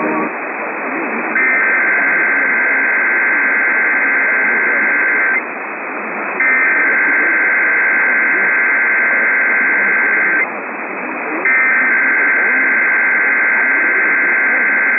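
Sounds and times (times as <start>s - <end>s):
radio static hiss: 0.0s - 14.9s.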